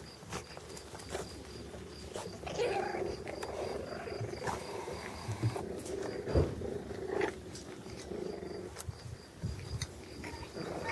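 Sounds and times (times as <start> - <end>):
insect chirping: 0.0 - 10.9
puppies growling: 0.3 - 10.9.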